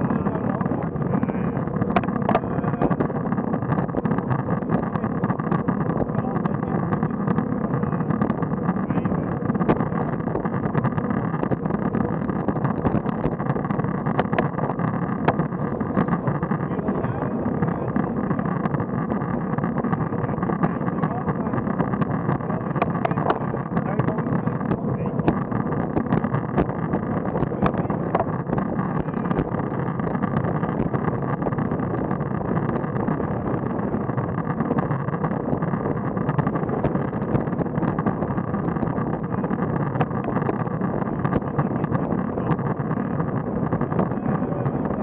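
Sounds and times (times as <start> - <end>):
sharp clicks: 0.0 - 45.0
wind and road noise: 0.0 - 45.0.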